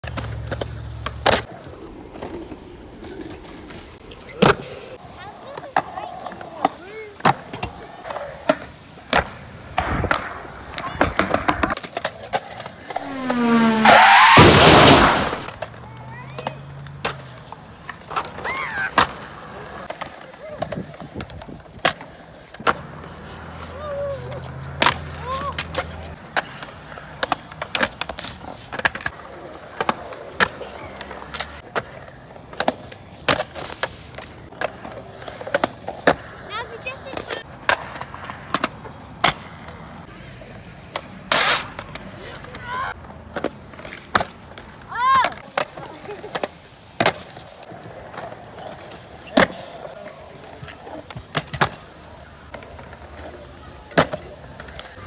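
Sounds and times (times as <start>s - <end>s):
skateboard clacking on ground: 0.0s - 55.0s
skateboard wheels rolling on concrete: 0.0s - 55.0s.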